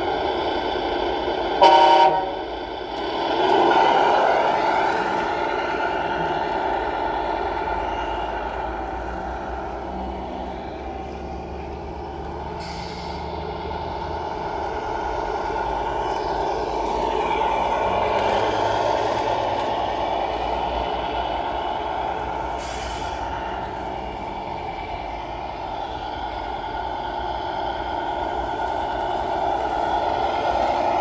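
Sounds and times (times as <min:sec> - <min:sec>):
model truck engine running: 0:00.0 - 0:31.0.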